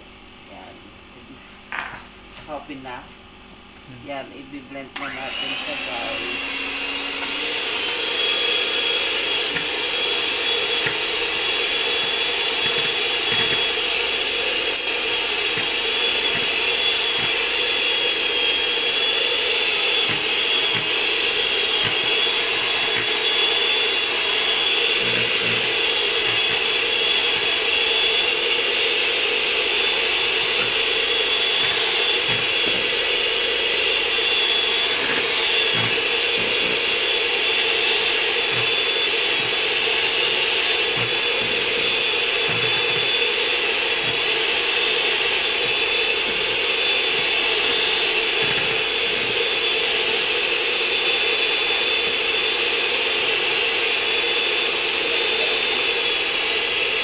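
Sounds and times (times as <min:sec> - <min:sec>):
electric hand mixer whining: 0:04.1 - 0:57.0.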